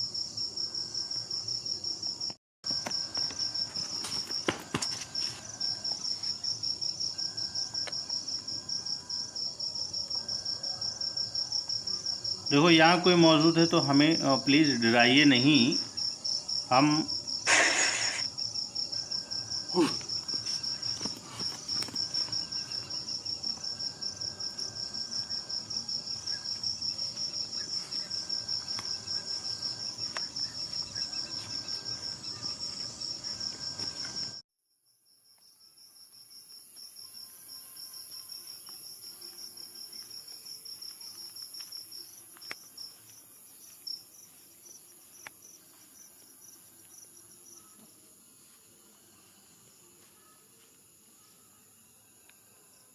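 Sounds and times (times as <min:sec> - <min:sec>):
high thin insect hum: 0:00.0 - 0:34.4, 0:35.3 - 0:52.9
crickets chirping: 0:00.0 - 0:52.9.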